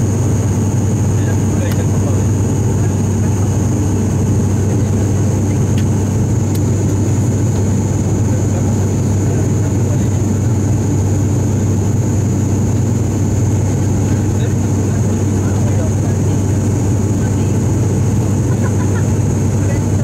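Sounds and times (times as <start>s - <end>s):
high steady whine: 0.0s - 20.0s
turboprop engines droning: 0.0s - 20.0s.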